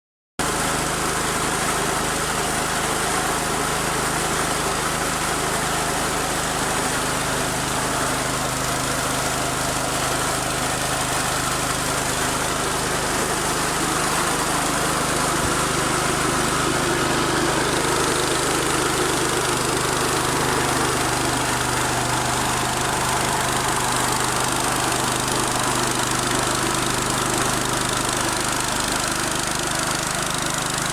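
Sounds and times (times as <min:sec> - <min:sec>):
rice milling machine humming: 0:00.4 - 0:30.9.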